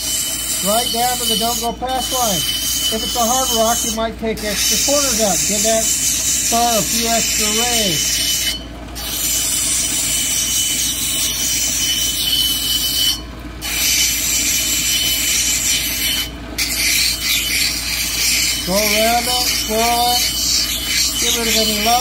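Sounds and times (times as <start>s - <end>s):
motor humming: 0.0s - 22.0s
stone grinding on wheel: 0.0s - 22.0s.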